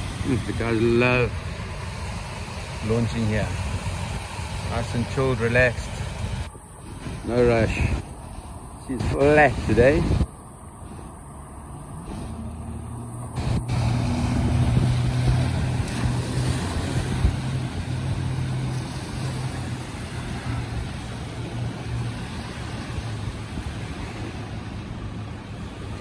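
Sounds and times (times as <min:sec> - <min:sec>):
outboard motor droning: 0:00.0 - 0:26.0.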